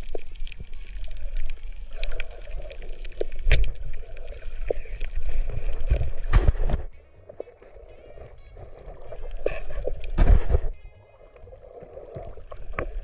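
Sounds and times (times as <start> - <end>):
underwater rumble of moving water: 0.0 - 13.0.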